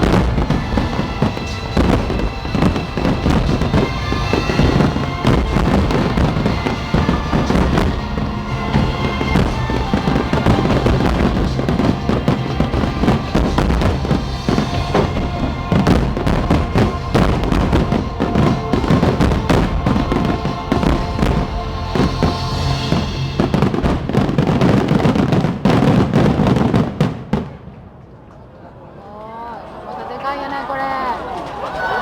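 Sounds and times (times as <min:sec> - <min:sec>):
music playing: 0:00.0 - 0:26.0
fireworks bursts and crackles: 0:00.0 - 0:28.2.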